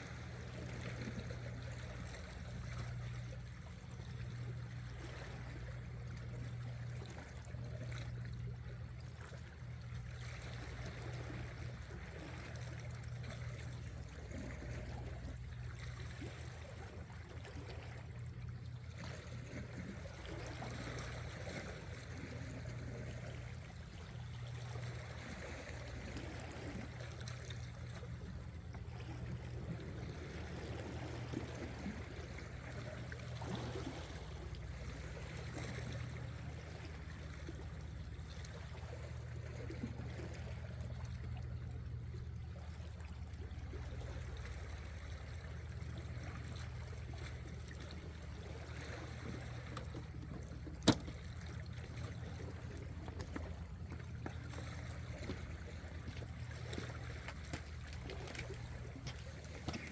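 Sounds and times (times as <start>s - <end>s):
steady low hum: 0.0s - 59.9s
seawater washing among rocks: 9.5s - 59.9s.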